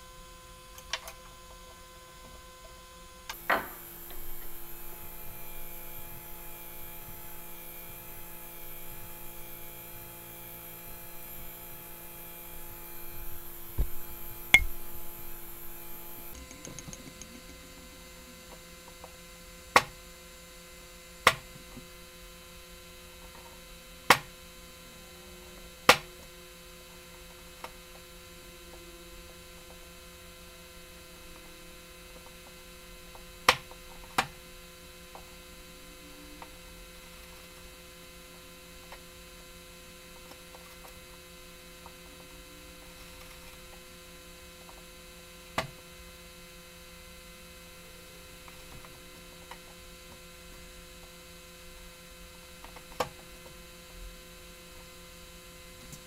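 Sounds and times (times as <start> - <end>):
electrical hum: 0.0 - 52.6.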